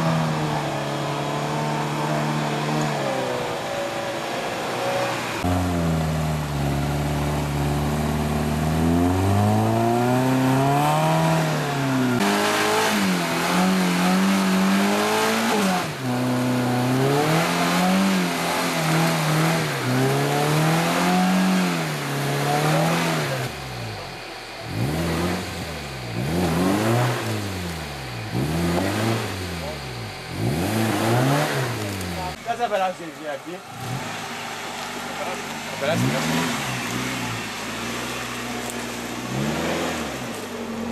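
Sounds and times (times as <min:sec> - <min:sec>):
car engine revving in mud: 0:00.0 - 0:40.9.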